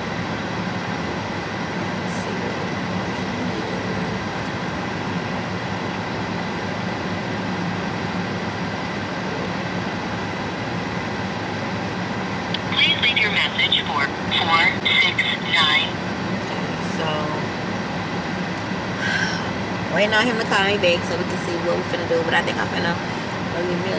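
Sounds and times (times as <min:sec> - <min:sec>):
air conditioning fan blowing: 0:00.0 - 0:23.9.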